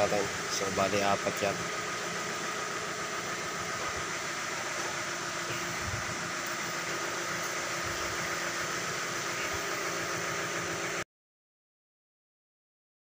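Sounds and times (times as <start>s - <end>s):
machine hissing and humming: 0.0s - 11.0s.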